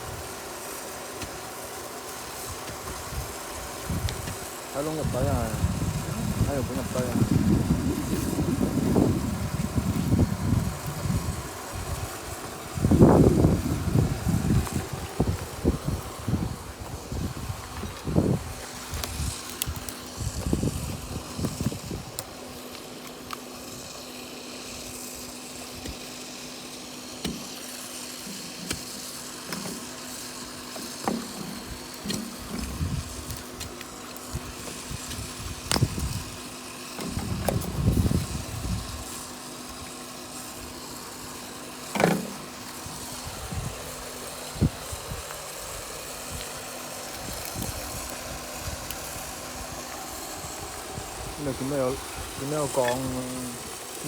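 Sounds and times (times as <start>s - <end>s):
small motor humming: 0.0s - 54.0s.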